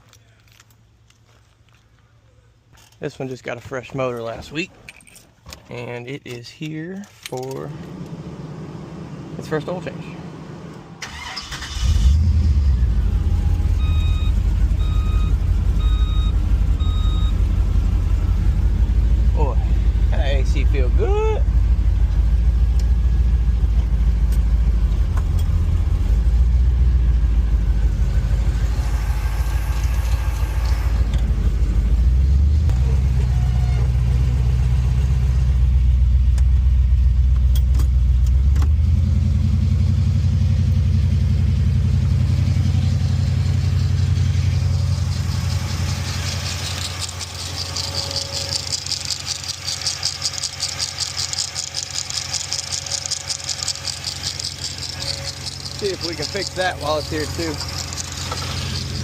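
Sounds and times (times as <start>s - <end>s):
car engine running: 7.5s - 59.0s.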